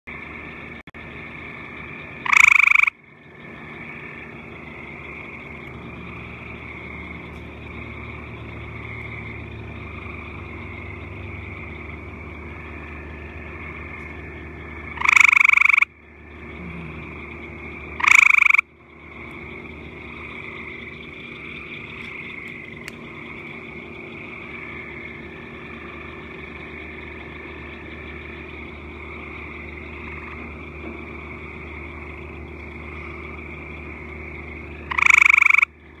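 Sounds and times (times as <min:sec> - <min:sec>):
frog calling: 0:00.1 - 0:36.0
steady background drone: 0:00.1 - 0:36.0.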